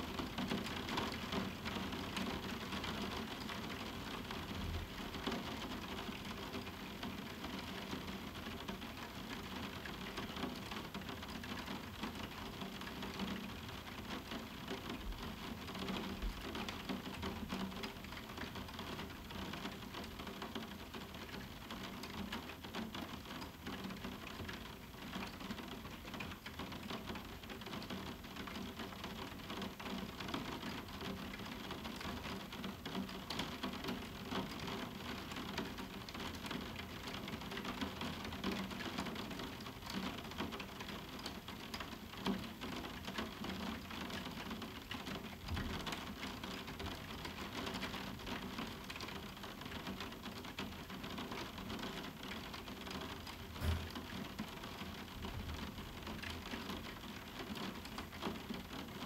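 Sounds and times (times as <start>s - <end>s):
rain ticking on window pane: 0.0s - 59.0s.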